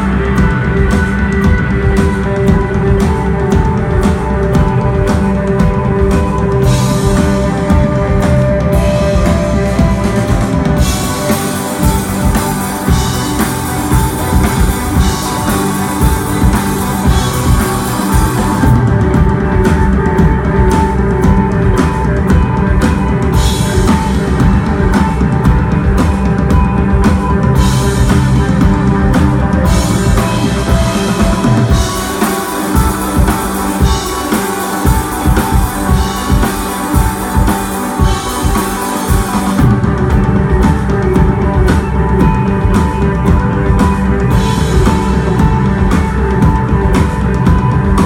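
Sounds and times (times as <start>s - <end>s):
bass: 0.0s - 48.0s
drum kit and cymbals: 0.0s - 48.0s
electric guitar: 0.0s - 48.0s.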